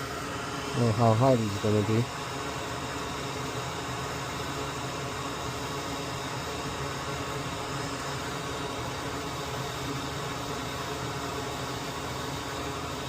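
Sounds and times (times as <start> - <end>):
fan-like hiss: 0.0 - 13.0.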